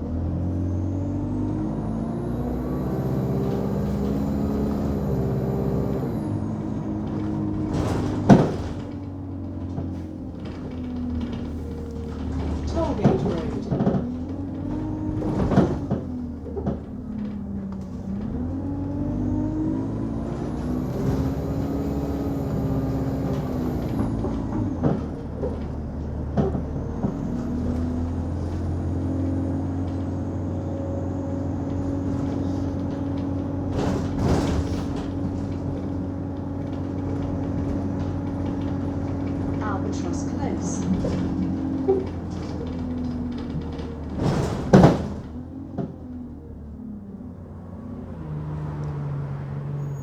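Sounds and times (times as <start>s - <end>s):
bus engine droning: 0.0s - 50.0s.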